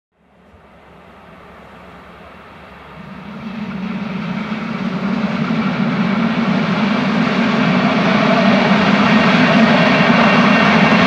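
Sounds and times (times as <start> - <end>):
train wheels on rails: 0.2 - 11.0
diesel engine drone: 0.6 - 11.0.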